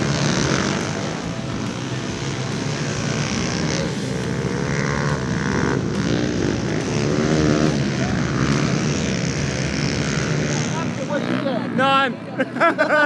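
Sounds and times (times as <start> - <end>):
pit bike engines revving: 0.0 - 13.0.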